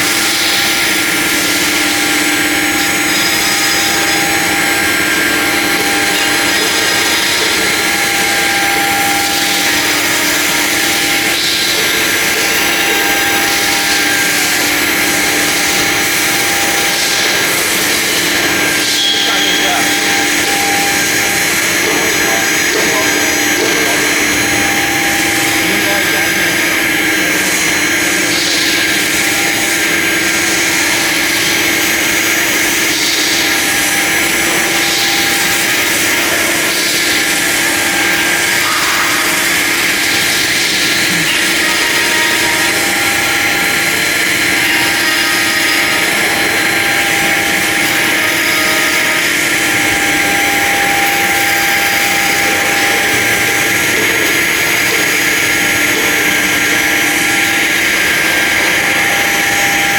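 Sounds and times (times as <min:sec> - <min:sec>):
cnc router machine whine: 0:00.0 - 0:59.9.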